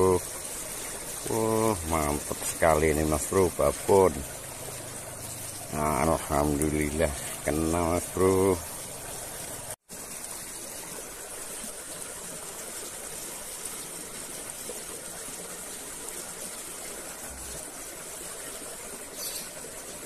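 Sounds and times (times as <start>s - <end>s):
small stream rushing: 0.0s - 20.0s.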